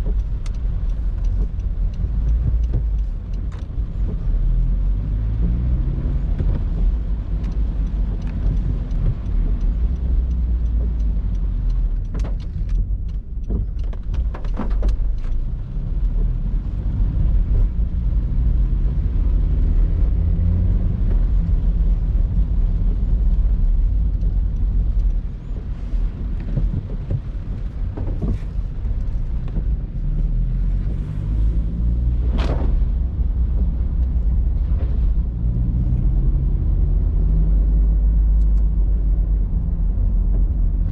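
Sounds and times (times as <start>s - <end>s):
car engine rumble: 0.0s - 40.9s
road noise: 0.0s - 40.9s.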